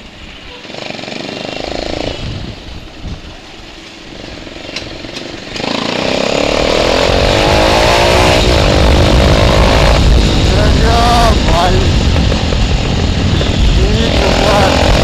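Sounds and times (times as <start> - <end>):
motorcycle exhaust revving: 0.0 - 15.0.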